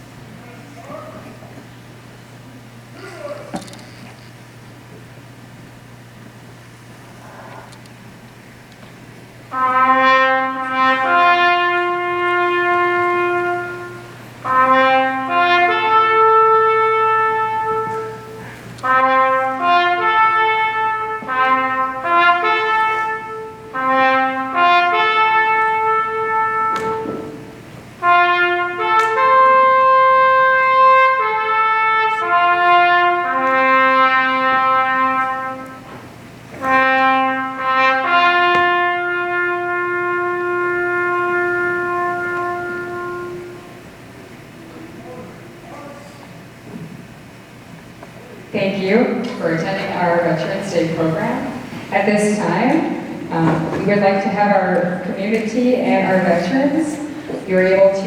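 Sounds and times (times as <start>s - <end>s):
solo trumpet melody: 9.3s - 46.4s, 48.5s - 58.0s.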